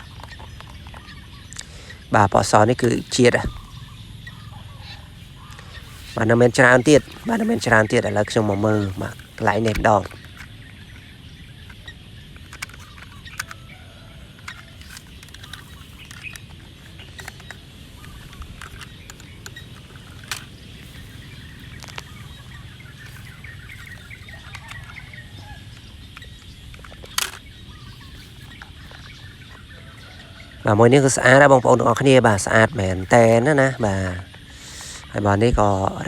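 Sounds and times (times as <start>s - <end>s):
faint birds calling: 0.0s - 36.0s
steady low hum: 0.0s - 36.0s.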